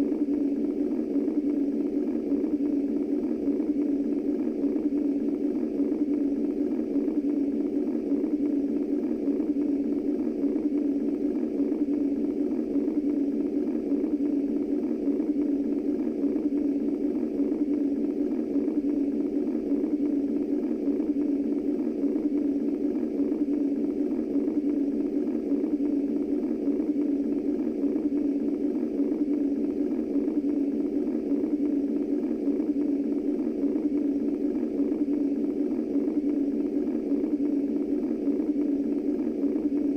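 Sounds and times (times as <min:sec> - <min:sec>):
muffled white noise: 0:00.0 - 0:39.9.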